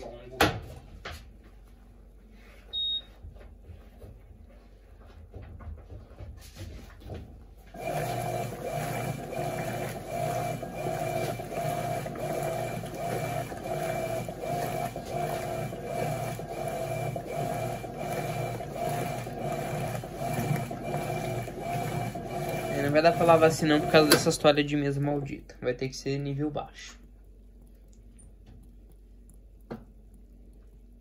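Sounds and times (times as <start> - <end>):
washing machine agitator whine: 2.1 - 31.0.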